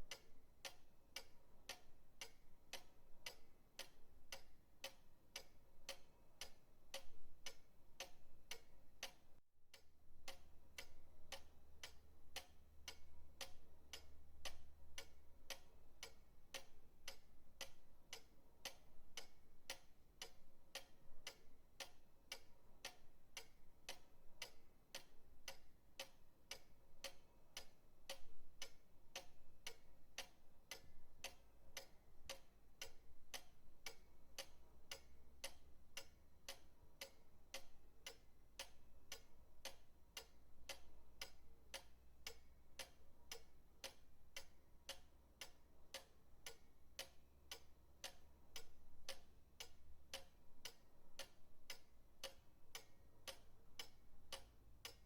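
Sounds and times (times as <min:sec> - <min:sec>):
pendulum clock ticking: 0:00.0 - 0:55.0.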